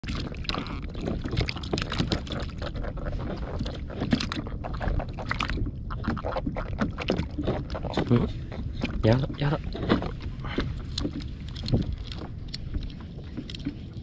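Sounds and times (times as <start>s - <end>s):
waves lapping against kayak hull: 0.0s - 14.0s.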